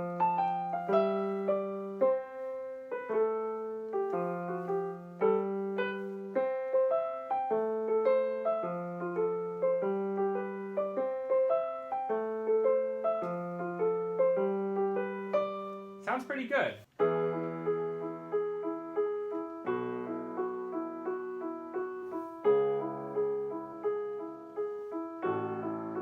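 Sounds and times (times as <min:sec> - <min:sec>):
digital piano chords: 0:00.0 - 0:26.0.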